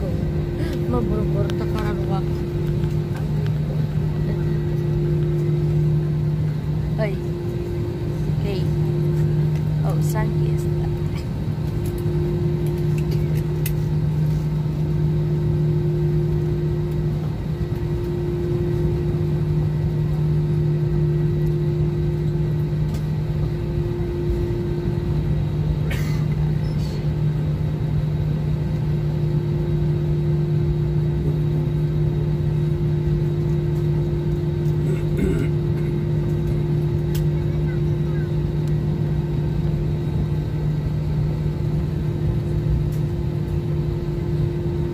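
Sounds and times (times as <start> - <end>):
airliner engine drone: 0.0 - 44.9.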